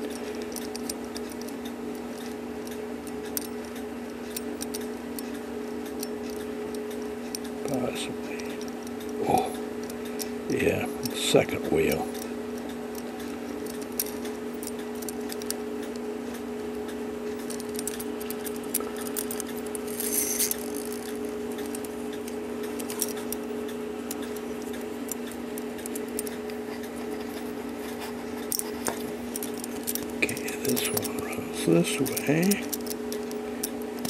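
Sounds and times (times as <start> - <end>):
clock movement clicks and rattles: 0.0 - 34.0
steady low hum: 0.0 - 34.0.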